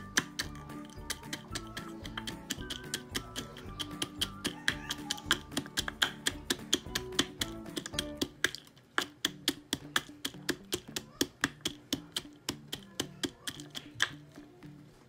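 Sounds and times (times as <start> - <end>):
background music: 0.0 - 12.9
pestle pounding in wooden mortar: 0.0 - 14.2.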